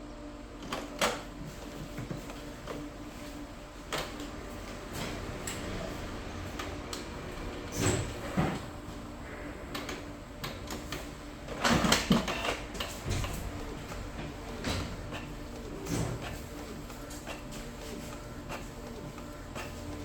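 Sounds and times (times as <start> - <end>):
inkjet printer humming and clicking: 0.0 - 20.0
printer rattling clunks: 0.6 - 20.0.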